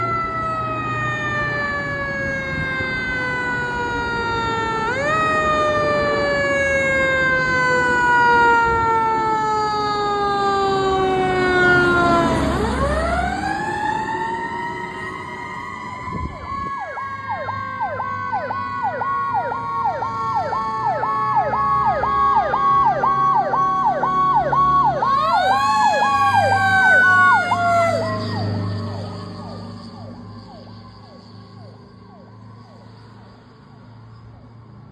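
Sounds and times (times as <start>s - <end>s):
yelping siren: 0.0s - 34.5s
wailing siren: 0.0s - 34.9s.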